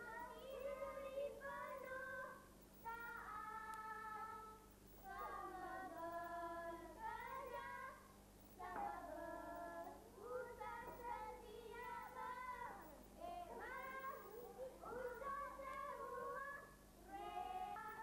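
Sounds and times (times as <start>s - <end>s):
boys singing unaccompanied: 0.0s - 18.0s.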